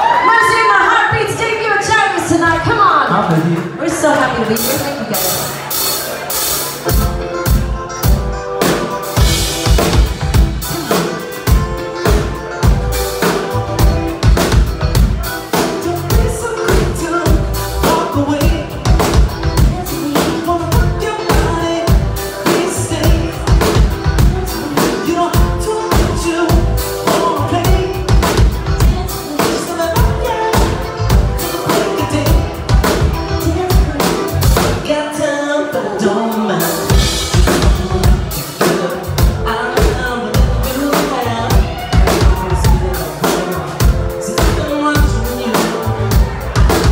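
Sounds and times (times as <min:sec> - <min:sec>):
bass: 0:00.0 - 0:46.9
guitar: 0:00.0 - 0:46.9
keyboards: 0:00.0 - 0:46.9
drum kit beat: 0:02.7 - 0:35.0, 0:36.4 - 0:46.9
person singing: 0:04.6 - 0:46.9.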